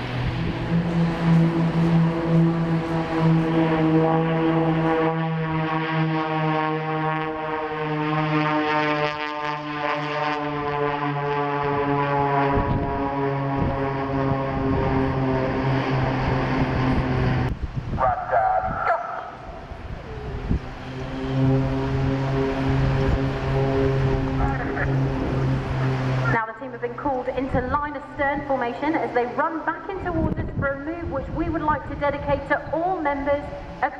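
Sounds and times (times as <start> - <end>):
propeller plane engine droning: 0.0 - 33.9.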